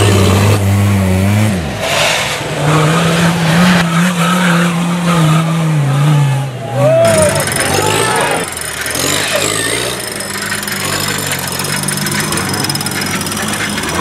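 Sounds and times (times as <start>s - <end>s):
off-road vehicle engines revving: 0.0s - 14.0s.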